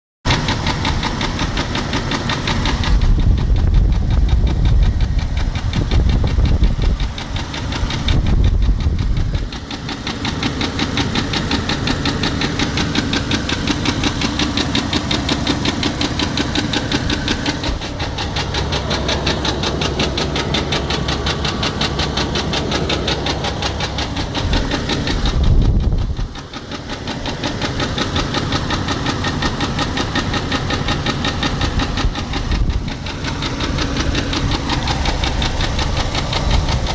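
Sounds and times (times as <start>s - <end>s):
engine running with rapid knock: 0.3s - 36.9s
heavy low rumble: 0.4s - 36.9s.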